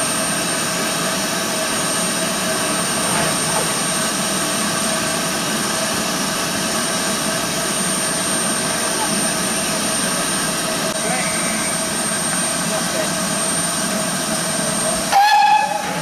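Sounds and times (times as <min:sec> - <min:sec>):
steam locomotive hissing steam: 0:00.0 - 0:16.0.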